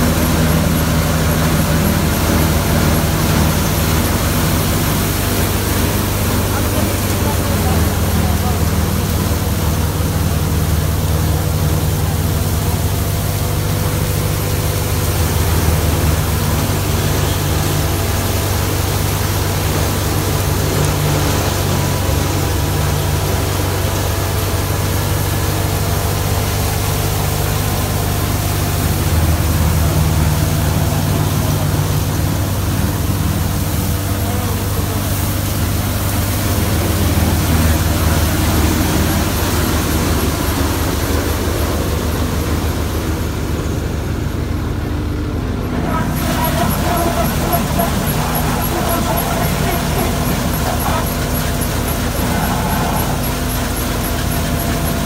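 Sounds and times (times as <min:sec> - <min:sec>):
thresher and tractor engine humming: 0:00.0 - 0:55.0.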